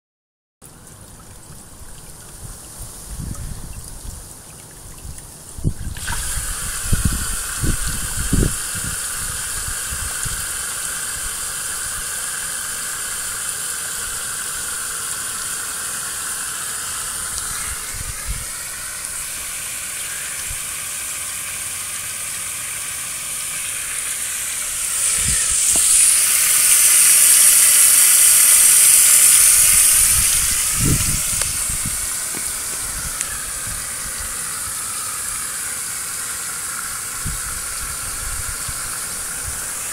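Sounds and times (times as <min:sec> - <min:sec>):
fountain water spray splattering: 0:00.7 - 0:39.9.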